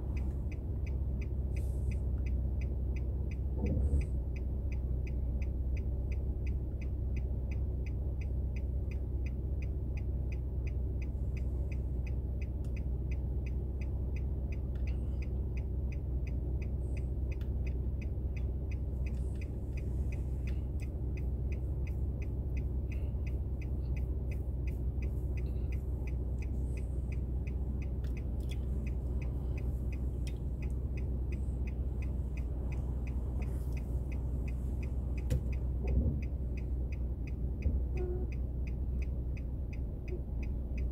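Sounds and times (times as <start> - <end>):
engine and road rumble: 0.0 - 40.9
even ticking: 0.0 - 40.9.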